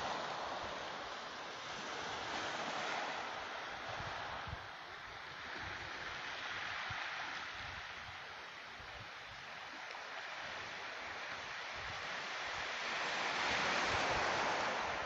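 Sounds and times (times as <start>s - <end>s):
sea surf washing on shore: 0.0s - 15.0s
wind rumbling on microphone: 0.0s - 15.0s.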